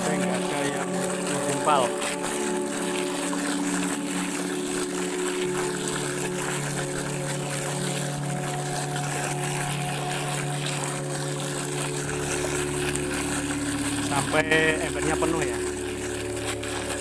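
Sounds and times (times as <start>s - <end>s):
hand stirring liquid: 0.0s - 17.0s
steady machine hum: 0.0s - 17.0s
water splashing into a tub: 0.0s - 17.0s.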